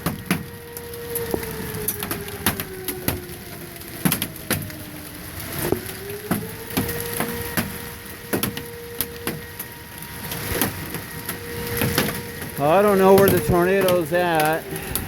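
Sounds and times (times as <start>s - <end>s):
hailstones striking hard surfaces: 0.0s - 15.0s
warning siren held tone: 0.1s - 15.0s.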